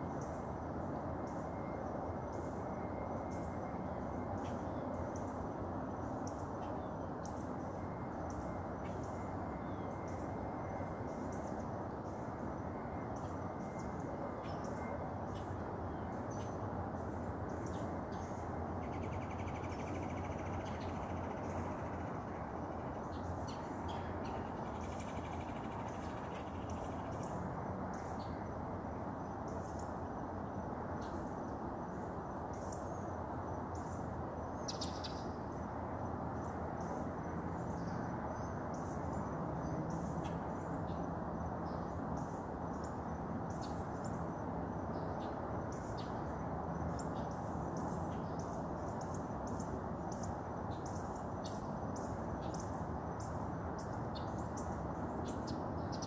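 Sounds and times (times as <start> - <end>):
low background rush: 0.0 - 56.0.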